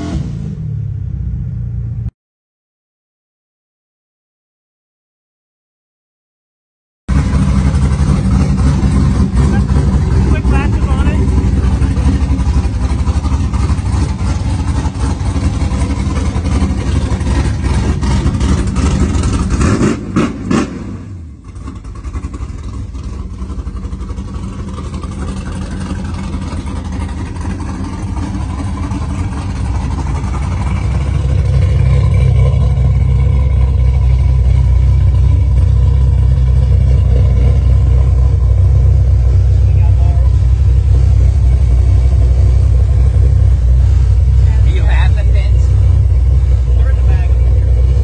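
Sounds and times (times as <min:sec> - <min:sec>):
car engine idling deep rumble: 0:00.5 - 0:02.1, 0:07.1 - 0:48.0.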